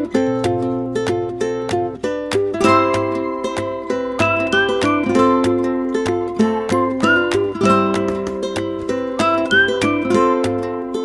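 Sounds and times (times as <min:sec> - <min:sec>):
upbeat plucked string music: 0:00.0 - 0:11.0.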